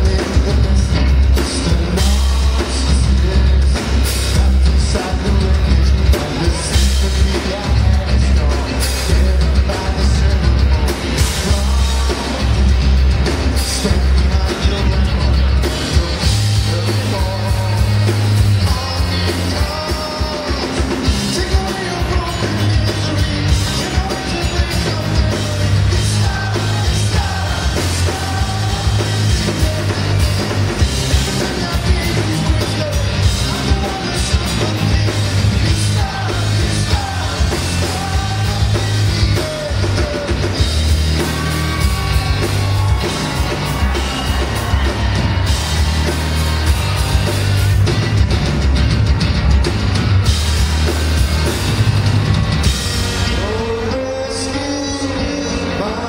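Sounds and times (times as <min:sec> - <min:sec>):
person singing: 0:00.0 - 0:47.4, 0:53.2 - 0:56.0
drum kit: 0:00.0 - 0:56.0.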